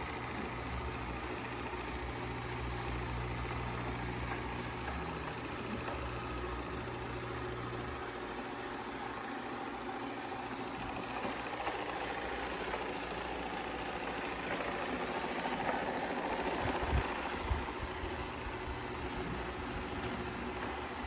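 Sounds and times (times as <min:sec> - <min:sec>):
robot vacuum motor and brushes: 0:03.2 - 0:21.0.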